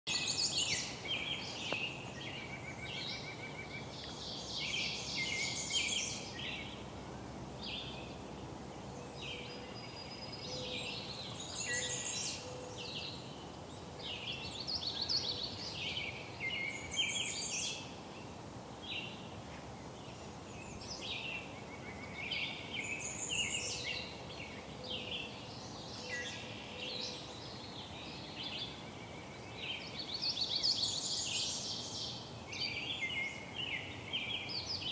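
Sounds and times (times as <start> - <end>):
low background hiss: 0.1 - 34.9
songbirds singing: 0.1 - 34.9.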